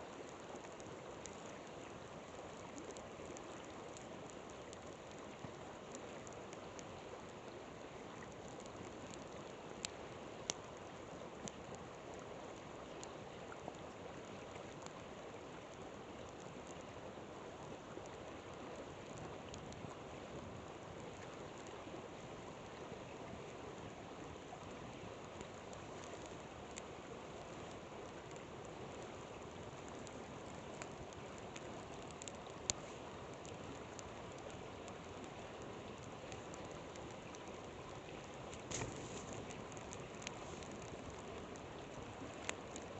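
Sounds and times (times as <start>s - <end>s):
campfire popping and crackling: 0.0s - 42.9s
river flowing: 0.0s - 42.9s.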